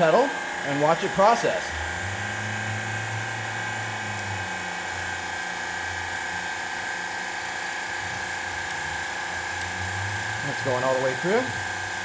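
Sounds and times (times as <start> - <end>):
hydraulic pump whining: 0.0 - 12.0.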